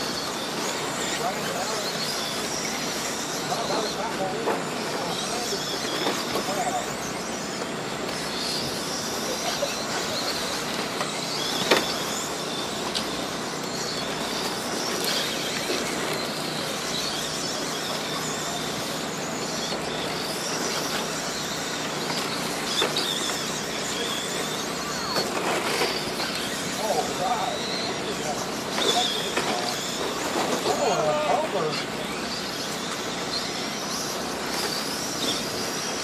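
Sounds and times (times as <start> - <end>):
rc car motors whining: 0.0 - 36.0.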